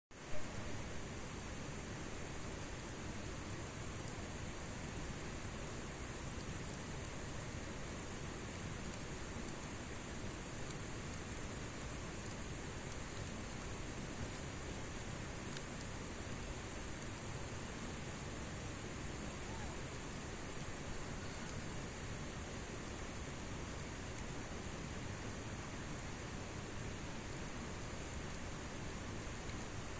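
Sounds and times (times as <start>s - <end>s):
crickets chirping: 0.1s - 29.9s.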